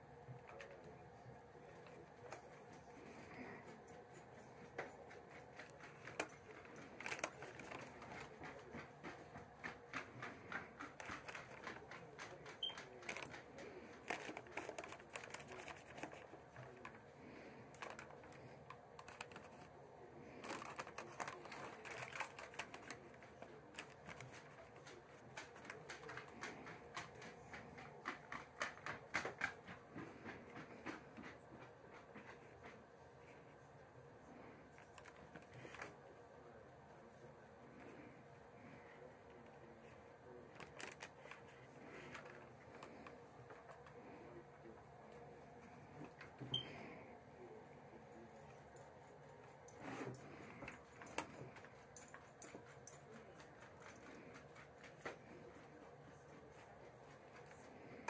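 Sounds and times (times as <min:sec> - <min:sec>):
brush tapping paper lantern: 0:00.0 - 0:58.0.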